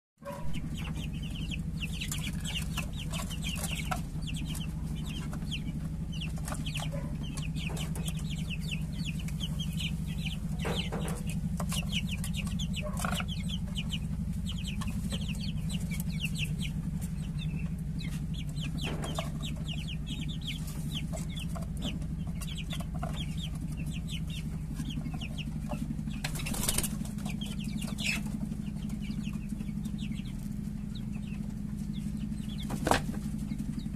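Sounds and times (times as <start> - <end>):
chicks peeping: 0.2 - 33.9
steady low hum: 0.3 - 33.9.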